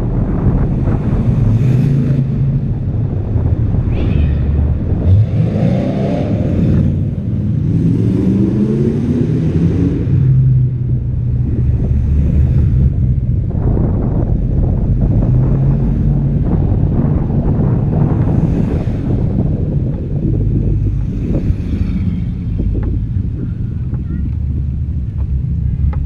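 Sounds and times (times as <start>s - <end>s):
car engine running: 0.0s - 26.0s
wind noise on microphone: 0.0s - 26.0s.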